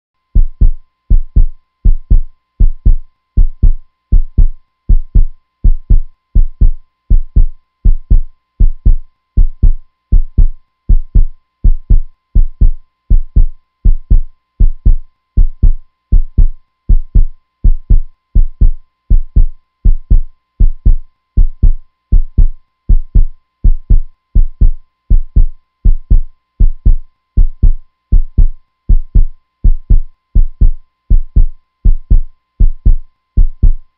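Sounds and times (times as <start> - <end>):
faint steady tone: 0.2 - 33.9
heartbeat thumps: 0.4 - 33.8.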